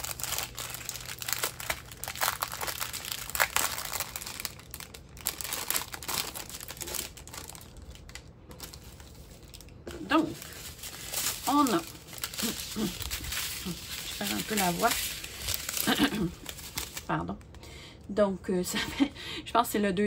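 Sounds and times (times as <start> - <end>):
plastic packaging crinkling: 0.0 - 17.6.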